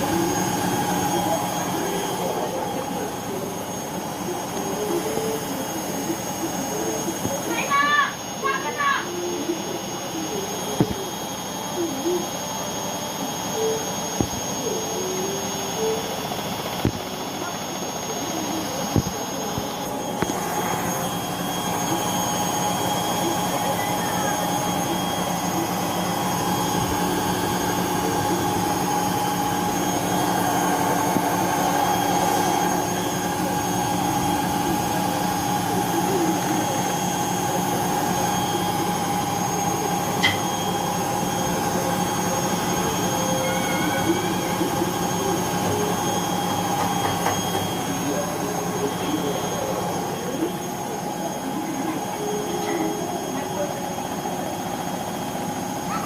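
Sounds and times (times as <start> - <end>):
washing machine motor humming: 0.0 - 56.0.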